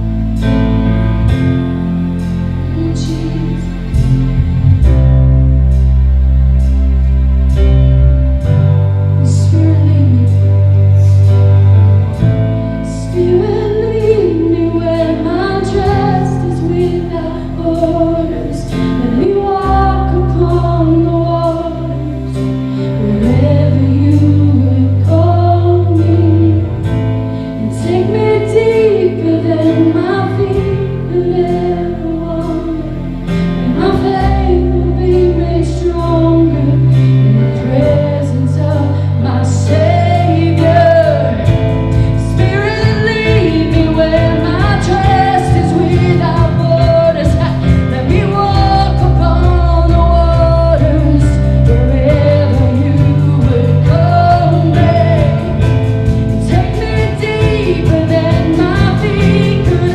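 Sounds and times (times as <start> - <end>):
band holding sustained chords: 0.0 - 59.9
woman singing: 2.6 - 4.0, 9.2 - 11.4, 12.8 - 27.0, 27.6 - 59.9.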